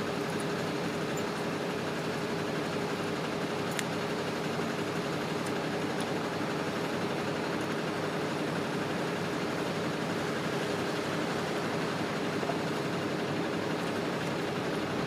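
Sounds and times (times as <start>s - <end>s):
engines idling hum: 0.0s - 15.0s.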